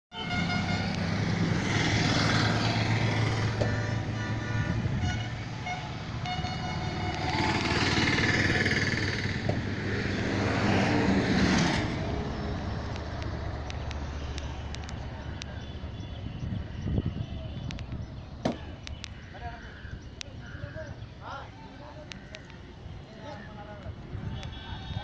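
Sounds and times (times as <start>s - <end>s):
vehicles passing: 0.1s - 25.0s.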